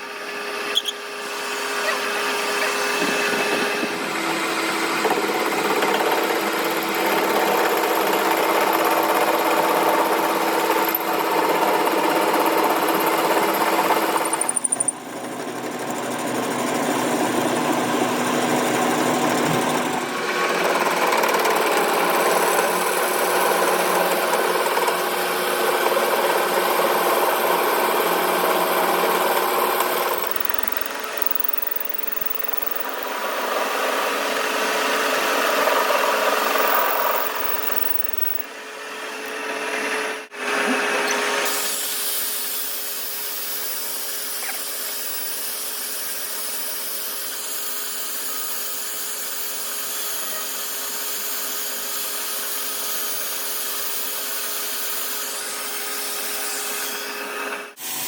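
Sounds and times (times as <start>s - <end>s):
workshop power tools running: 0.0s - 58.0s.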